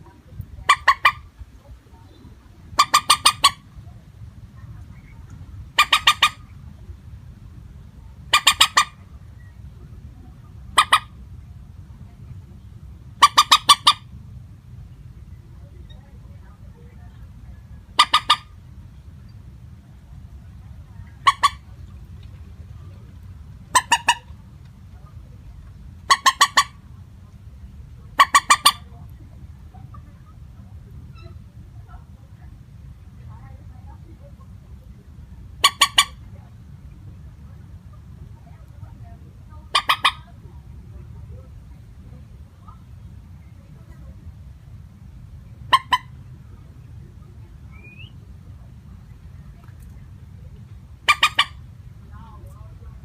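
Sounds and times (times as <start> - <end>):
moorhen calling: 0.0 - 14.2, 14.9 - 32.2, 33.0 - 44.3, 45.4 - 53.0.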